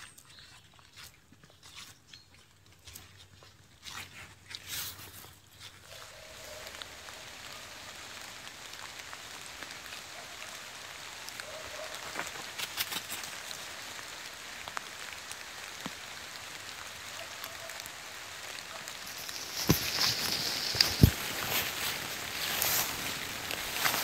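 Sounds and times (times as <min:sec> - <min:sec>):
light rain pattering on leaves: 0:02.6 - 0:24.0.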